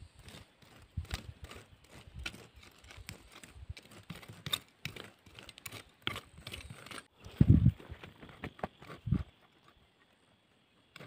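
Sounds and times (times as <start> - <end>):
hand hoes scraping soil: 0.0 - 11.0.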